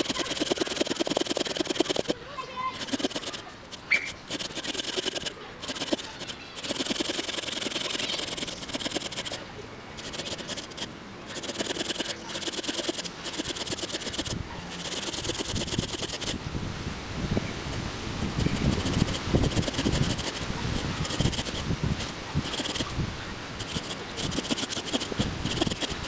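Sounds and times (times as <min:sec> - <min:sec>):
knife scraping a log: 0:00.0 - 0:09.4, 0:10.0 - 0:16.4, 0:17.7 - 0:22.9, 0:23.6 - 0:26.0.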